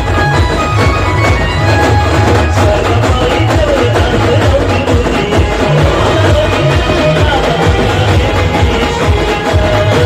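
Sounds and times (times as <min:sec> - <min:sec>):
banjo melody: 0:00.0 - 0:10.0
driving drum beat: 0:00.0 - 0:10.0.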